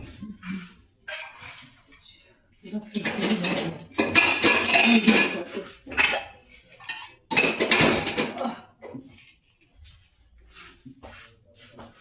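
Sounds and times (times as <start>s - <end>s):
spoon scraping a metal bowl: 0.0s - 12.0s.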